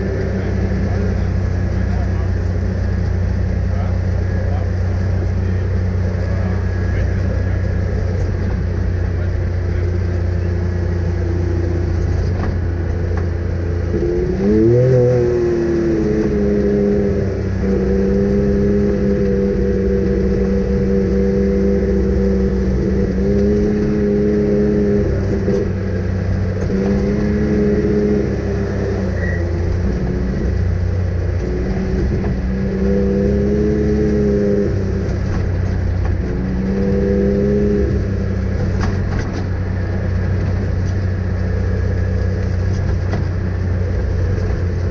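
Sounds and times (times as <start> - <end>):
vehicle engine under load: 0.0 - 44.9.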